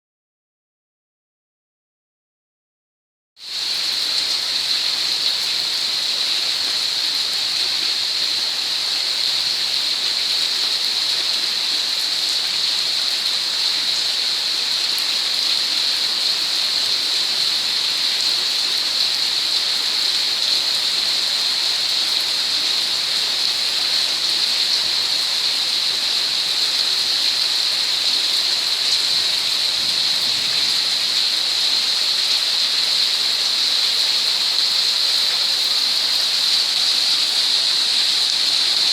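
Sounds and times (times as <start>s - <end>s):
rain falling steadily: 3.4s - 38.9s.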